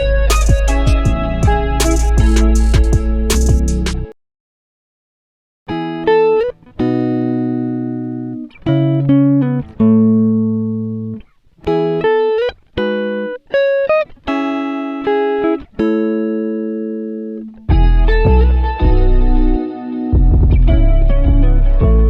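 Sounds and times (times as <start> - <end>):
plucked guitar music: 0.0 - 4.2, 5.7 - 22.0.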